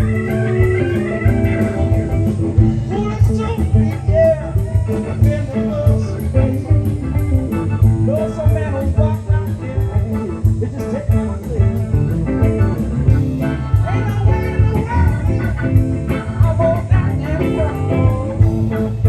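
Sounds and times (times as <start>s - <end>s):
drums steady beat: 0.0s - 19.0s
live blues-rock band: 0.0s - 19.0s
sliding lead guitar line: 0.0s - 19.0s.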